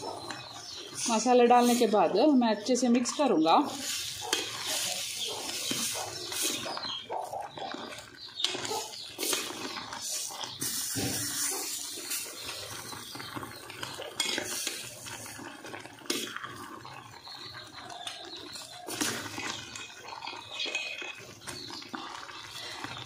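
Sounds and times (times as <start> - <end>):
metal spoon stirring curry in pot: 0.1 - 23.0.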